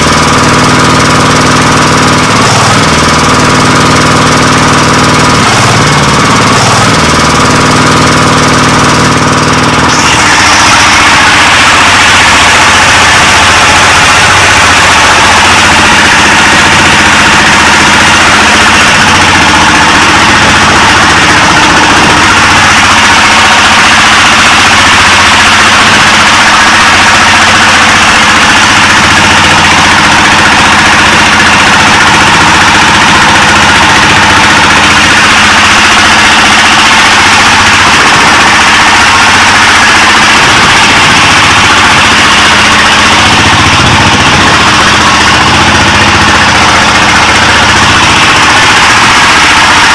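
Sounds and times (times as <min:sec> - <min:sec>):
diesel boat engine at full throttle: 0:00.0 - 0:49.9.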